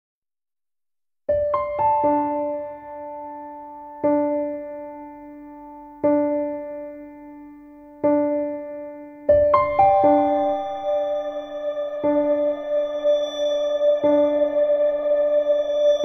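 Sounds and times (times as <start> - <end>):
soft piano music: 1.3 - 16.0.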